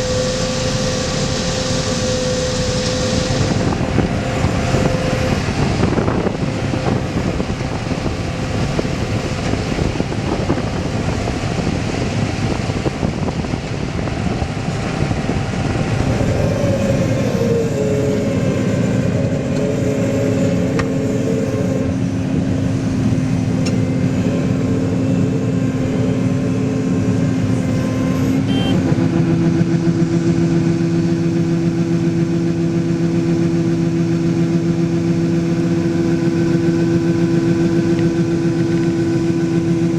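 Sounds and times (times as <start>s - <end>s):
farm machinery engine running: 0.0s - 39.9s
whining tones: 0.0s - 39.9s.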